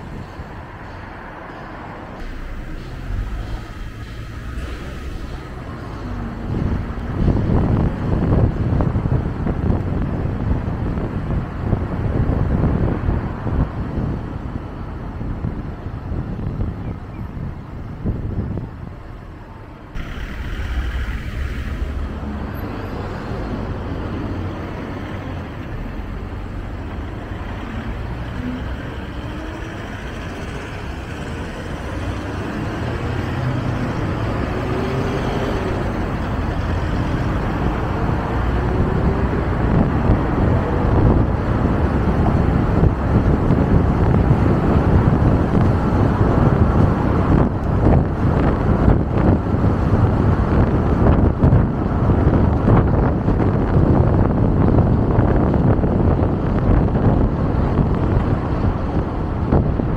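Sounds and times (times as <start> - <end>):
car road and wind noise: 0.0 - 59.9.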